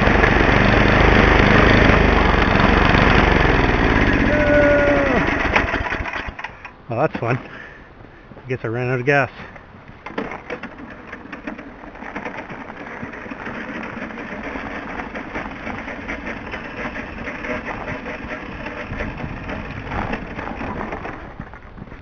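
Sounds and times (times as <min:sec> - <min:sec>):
snowblower wheels crunching snow: 0:00.0 - 0:22.0.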